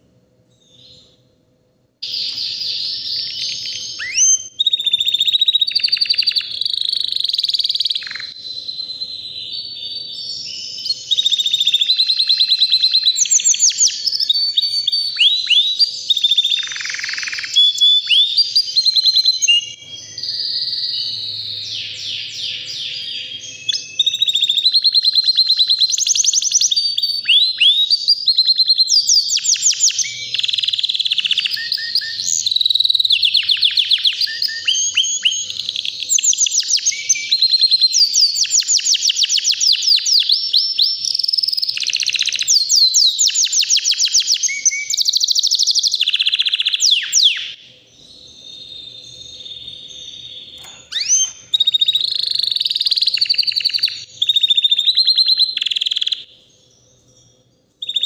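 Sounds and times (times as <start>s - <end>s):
canary singing: 2.0s - 58.0s.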